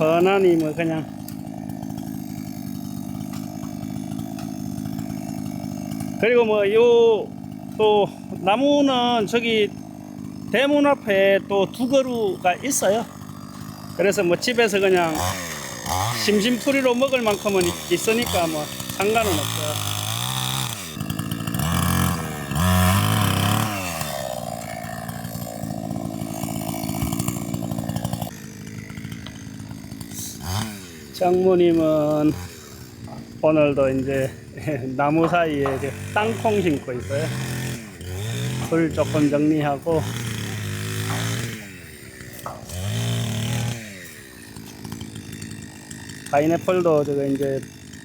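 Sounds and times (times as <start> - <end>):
small two-stroke engine revving: 0.0 - 48.0.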